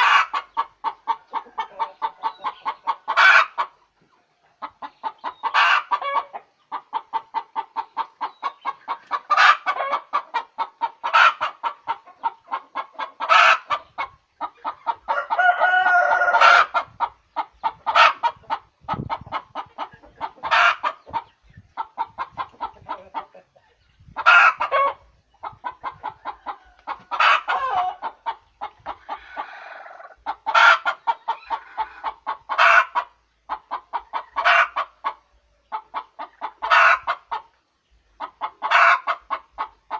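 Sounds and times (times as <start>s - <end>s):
hen cackling: 0.0s - 3.9s, 4.6s - 37.6s, 38.2s - 39.9s.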